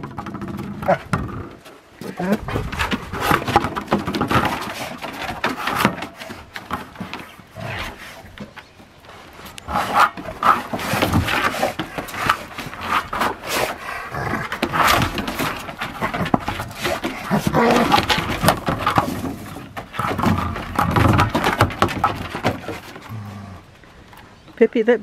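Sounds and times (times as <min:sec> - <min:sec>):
dogs playing: 0:00.3 - 0:24.2.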